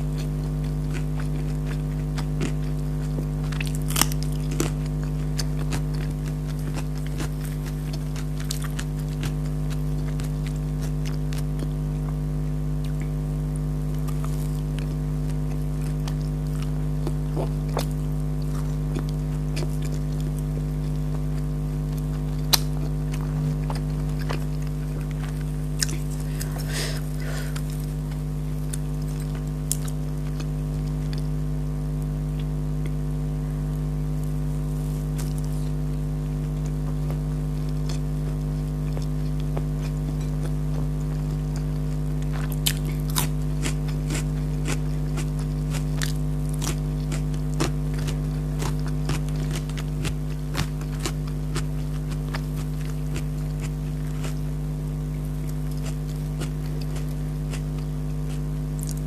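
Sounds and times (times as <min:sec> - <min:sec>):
person chewing crunchy food: 0:00.0 - 0:33.1, 0:34.2 - 0:59.0
steady low hum: 0:00.0 - 0:59.0.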